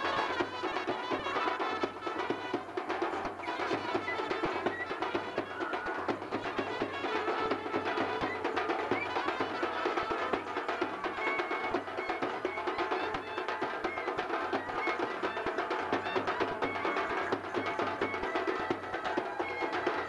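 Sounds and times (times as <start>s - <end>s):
wind instrument melody: 0.0s - 20.0s.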